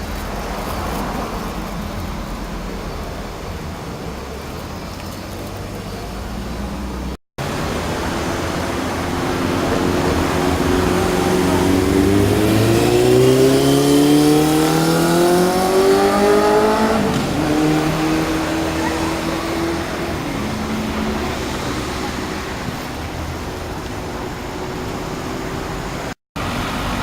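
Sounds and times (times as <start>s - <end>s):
vehicle engine accelerating: 5.3s - 27.0s.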